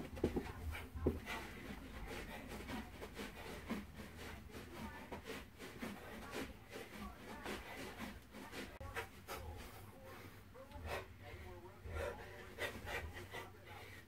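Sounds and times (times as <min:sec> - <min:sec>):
feet shuffling on carpet: 0:00.0 - 0:14.0.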